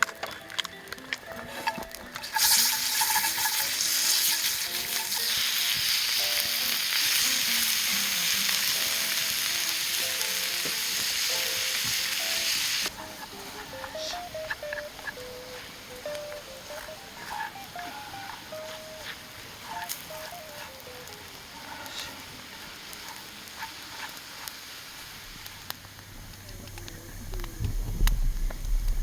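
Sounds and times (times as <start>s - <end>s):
food sizzling on hot metal: 0.0s - 29.0s
quiet background music: 0.0s - 29.0s.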